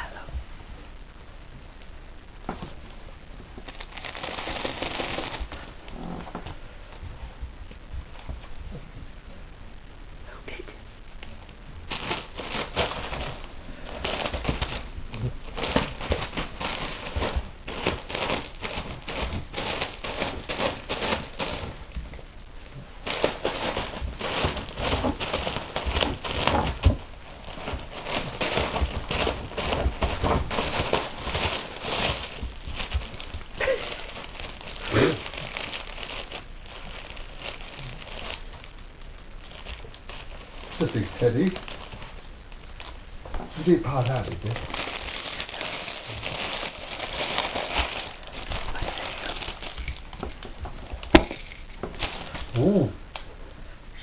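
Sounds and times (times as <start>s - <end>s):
wrapping paper crinkling and tearing: 2.6s - 8.6s, 11.2s - 53.4s.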